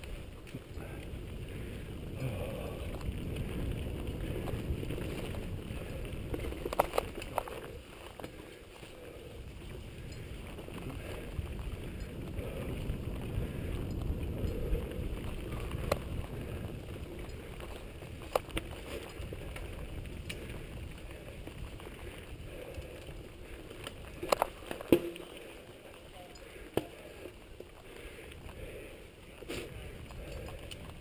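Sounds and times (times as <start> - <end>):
wind buffeting microphone: 0.0 - 24.8, 26.2 - 31.0
bike rattling clicks and knocks: 0.0 - 31.0
tyres rumbling on dirt trail: 0.0 - 31.0.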